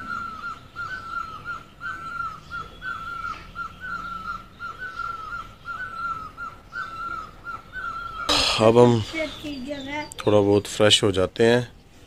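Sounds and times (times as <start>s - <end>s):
bird calling: 0.0s - 10.7s.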